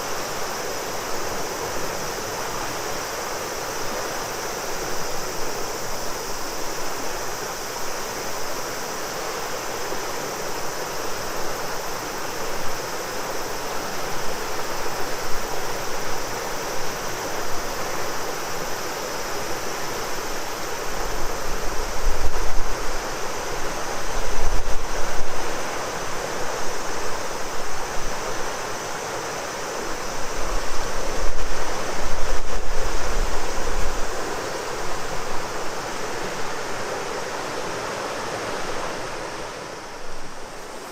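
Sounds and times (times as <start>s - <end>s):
cicadas droning: 0.0s - 40.9s
river flowing: 0.0s - 40.9s.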